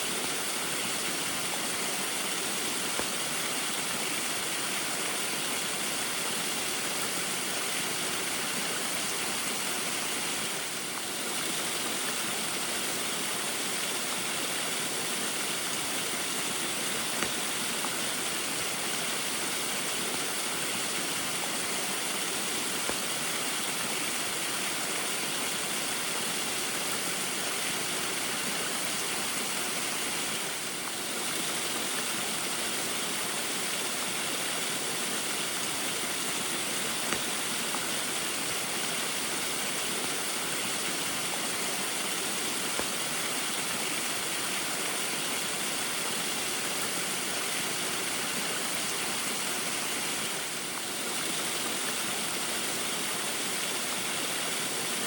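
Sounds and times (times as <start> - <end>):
rain: 0.0 - 55.0
small waterfall rushing: 0.0 - 55.0.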